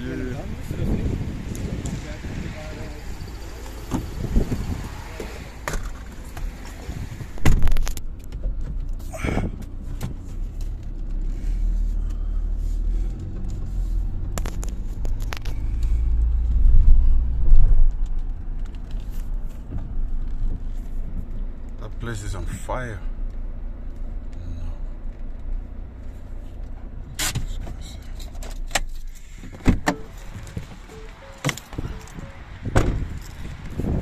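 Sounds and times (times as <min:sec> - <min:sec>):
car cabin rumble: 0:00.0 - 0:34.0.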